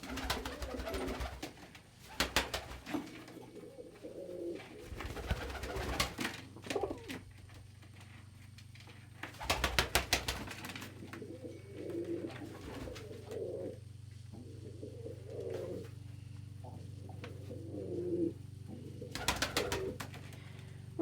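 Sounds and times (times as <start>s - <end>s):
pigeons cooing: 0.0s - 7.4s, 9.3s - 21.0s.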